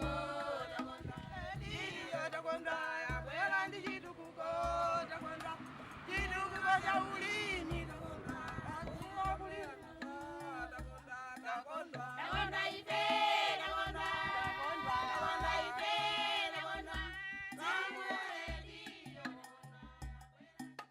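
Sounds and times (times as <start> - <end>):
music with singing voices: 0.0 - 20.9.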